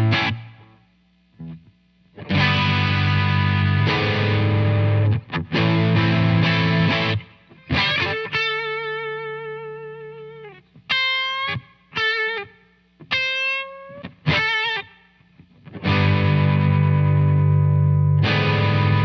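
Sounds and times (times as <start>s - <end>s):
overdriven electric guitar: 0.0s - 0.8s, 1.4s - 19.0s.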